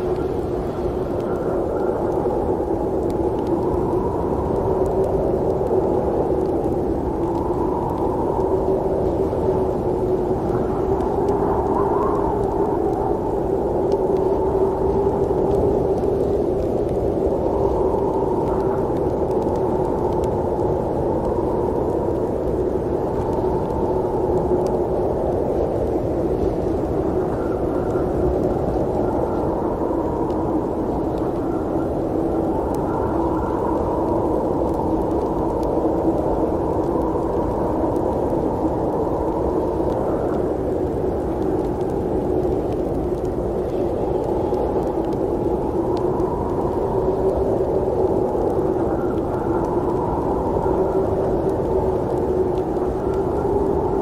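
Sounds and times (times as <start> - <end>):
faint ticks: 0.0 - 54.0
snowstorm wind rushing: 0.0 - 54.0.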